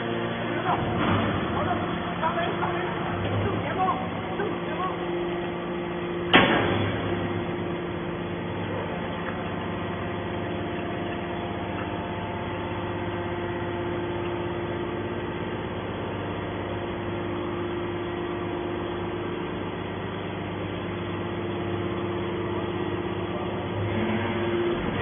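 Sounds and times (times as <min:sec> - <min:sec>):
hydraulic motor and pump hum: 0:00.0 - 0:25.0.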